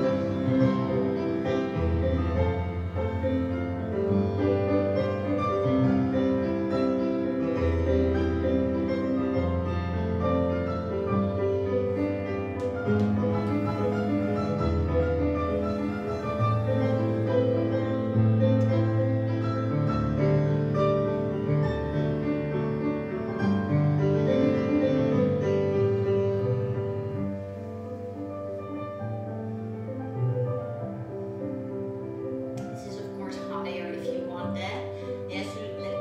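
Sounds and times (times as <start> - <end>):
solo piano music: 0.0 - 36.0.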